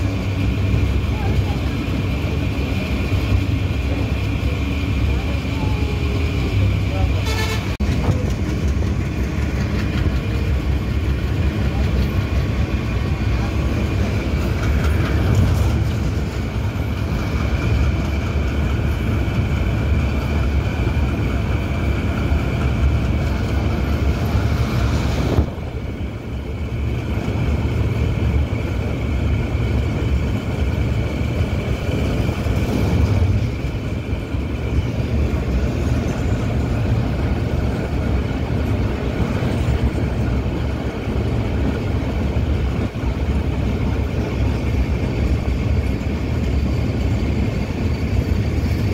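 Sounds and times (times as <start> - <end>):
train wheels rumbling on track: 0.0 - 48.9.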